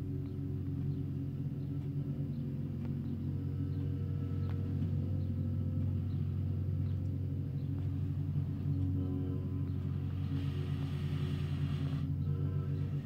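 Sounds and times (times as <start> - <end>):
diesel engines droning: 0.0 - 13.0.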